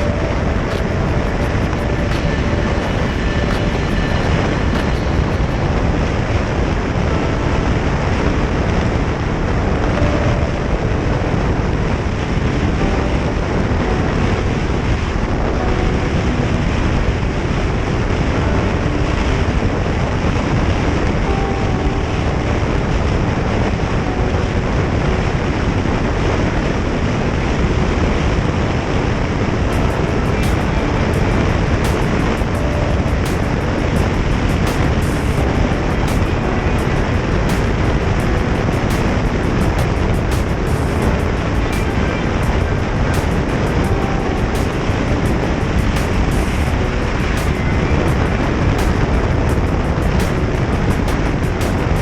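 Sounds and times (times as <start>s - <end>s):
wind on microphone: 0.0s - 52.0s.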